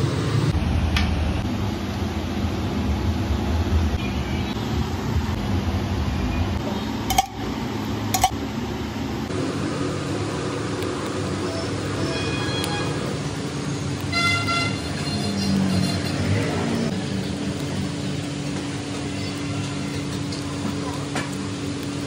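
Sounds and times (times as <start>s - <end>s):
street stall background rumble: 0.0s - 22.0s.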